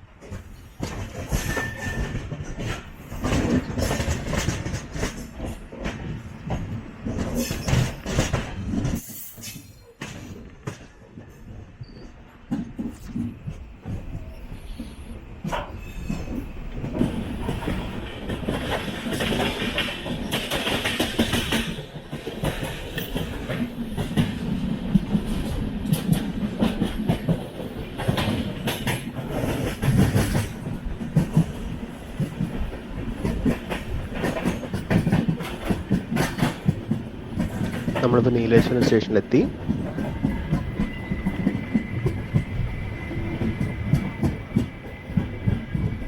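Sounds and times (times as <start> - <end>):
train wheels rumbling on rails: 0.0 - 46.0
clacks over rail joints: 0.2 - 46.0.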